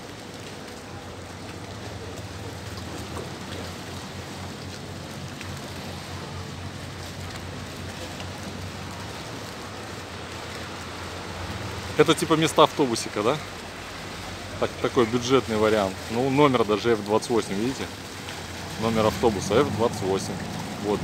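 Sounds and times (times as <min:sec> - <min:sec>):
sea water splashing against pier: 0:00.0 - 0:21.0.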